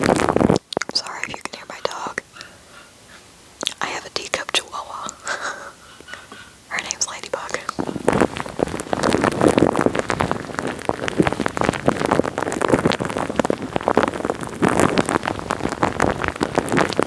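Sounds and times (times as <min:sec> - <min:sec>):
wet crackling on microphone: 0:00.0 - 0:17.0.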